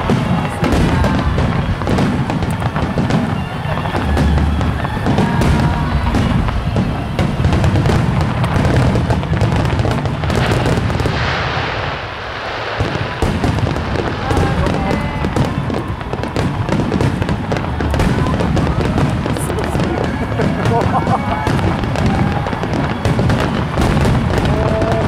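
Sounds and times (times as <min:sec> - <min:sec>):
fireworks booming and crackling: 0:00.0 - 0:25.0.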